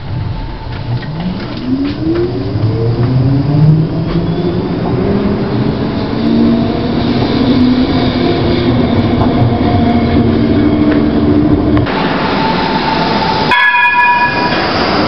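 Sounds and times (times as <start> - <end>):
tram motor whine: 0.0 - 15.0
wheels rumbling on rail: 0.0 - 15.0.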